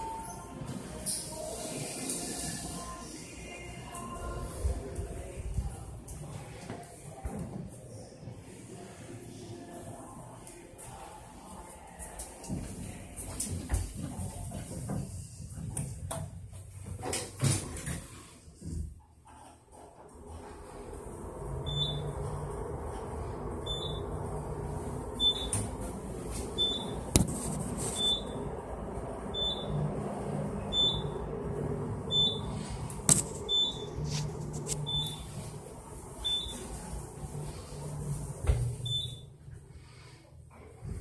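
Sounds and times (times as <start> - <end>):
elevator running hum: 0.0 - 17.4, 19.4 - 41.0.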